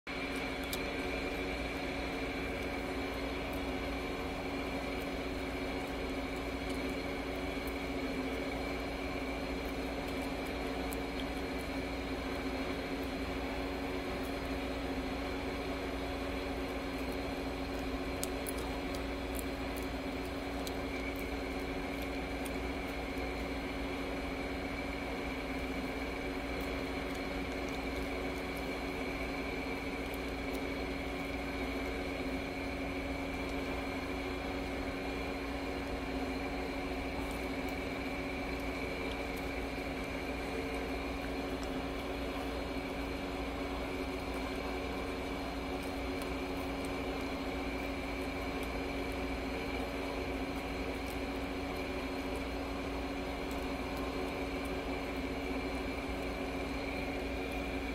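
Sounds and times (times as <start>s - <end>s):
machine hum: 0.1s - 57.9s.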